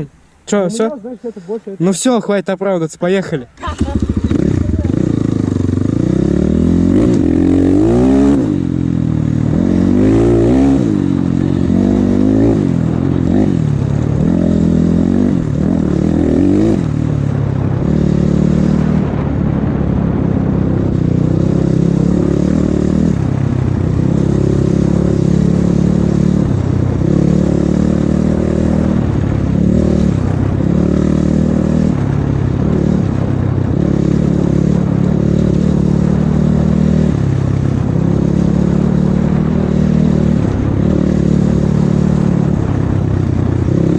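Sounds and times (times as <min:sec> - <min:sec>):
motorcycle engine revving: 0:03.1 - 0:43.9.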